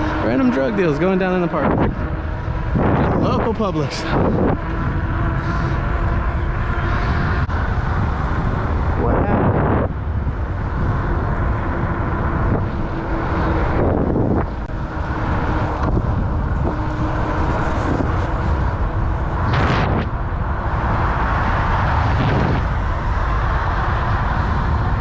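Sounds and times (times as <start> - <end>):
road noise: 0.0 - 25.0
wind on microphone: 0.0 - 25.0.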